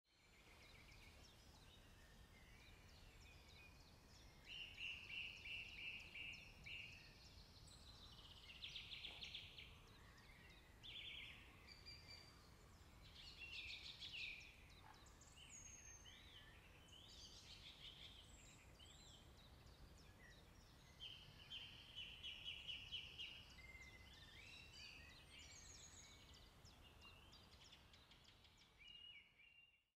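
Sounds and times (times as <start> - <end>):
songbirds singing: 0.1 - 29.9.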